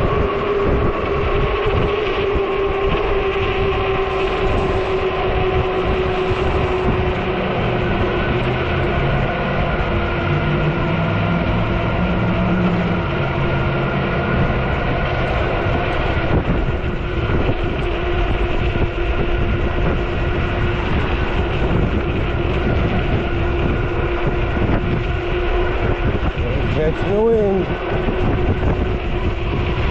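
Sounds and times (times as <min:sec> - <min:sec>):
electric motor whine: 0:00.0 - 0:29.9
wind rumbling on microphone: 0:00.0 - 0:29.9.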